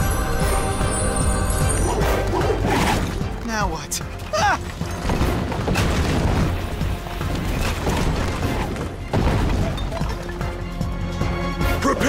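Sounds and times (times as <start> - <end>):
dramatic music: 0.0 - 12.0.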